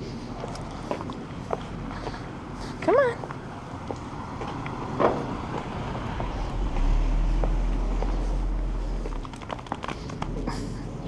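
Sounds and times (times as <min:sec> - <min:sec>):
car passing with low rumble: 0:00.0 - 0:11.0.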